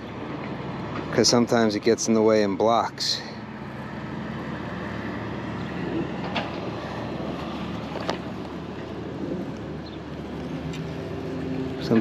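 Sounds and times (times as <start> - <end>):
air conditioning unit droning: 0.0 - 12.0.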